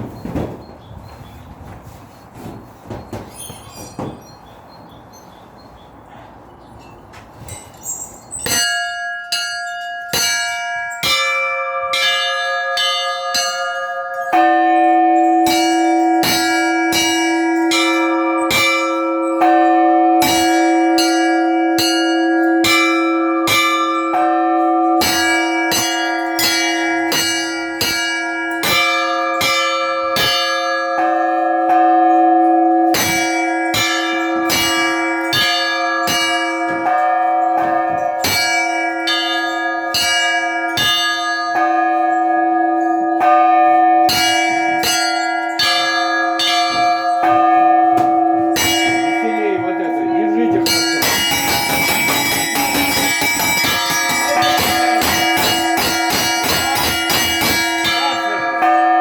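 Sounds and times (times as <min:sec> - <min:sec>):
small bells striking rapidly: 0:02.9 - 0:59.0
deep bell humming: 0:04.3 - 0:59.0.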